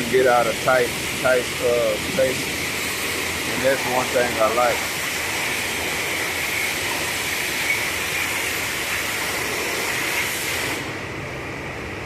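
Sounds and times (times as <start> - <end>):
high-pressure water spray hissing: 0.0 - 11.0.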